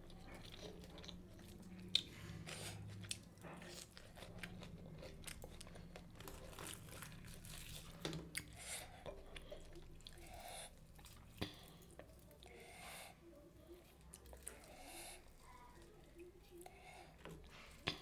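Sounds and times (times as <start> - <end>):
person chewing food: 0.0 - 13.2, 13.8 - 18.0.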